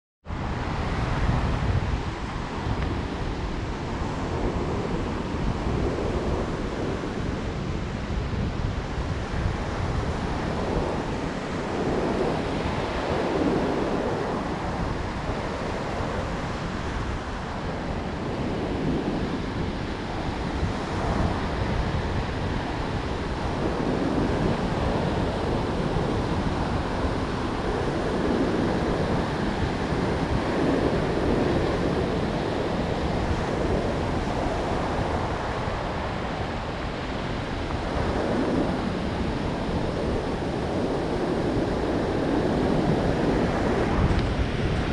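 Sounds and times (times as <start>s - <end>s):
wind rumbling on microphone: 0.2s - 44.9s.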